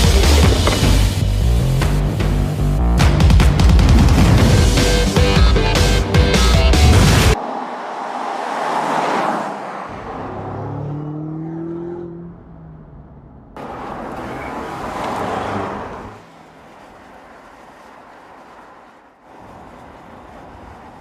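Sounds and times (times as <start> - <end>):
car engine accelerating: 0.0 - 21.0
road noise: 0.0 - 21.0.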